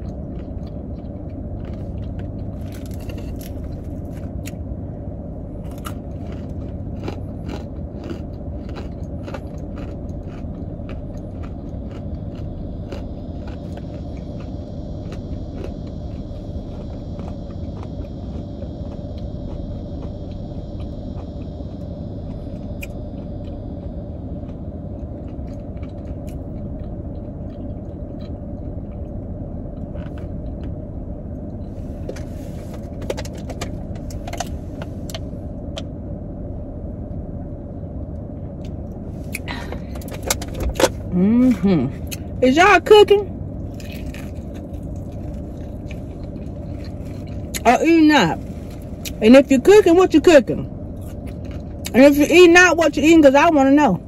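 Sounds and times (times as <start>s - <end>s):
person chewing crunchy food: 0.0s - 35.3s, 38.6s - 42.4s, 43.5s - 47.7s, 48.4s - 49.2s, 50.8s - 52.0s
car interior hum: 0.0s - 54.0s.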